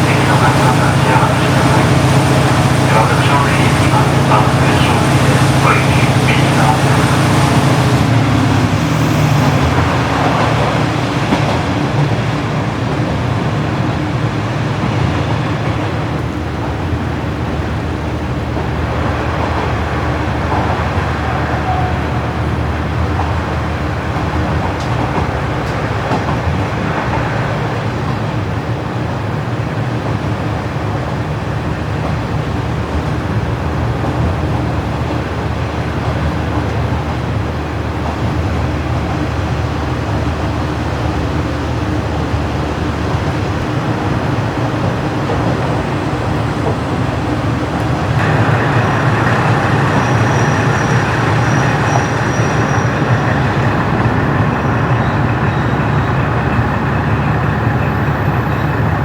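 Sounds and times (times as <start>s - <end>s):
diesel engine drone: 0.0s - 59.0s
rail running noise: 0.0s - 59.0s.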